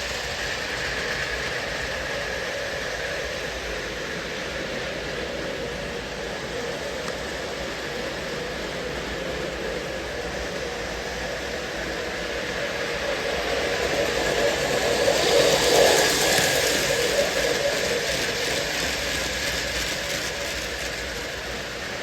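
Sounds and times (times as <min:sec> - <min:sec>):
model train running rumble: 0:00.0 - 0:22.0.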